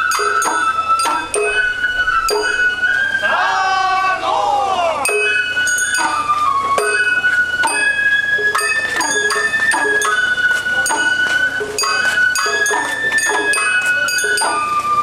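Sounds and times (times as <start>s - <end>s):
small hand gong clinking: 0.0s - 2.7s, 5.0s - 14.9s
drum strikes: 0.0s - 2.8s, 5.0s - 15.0s
bamboo flute melody: 0.0s - 15.0s.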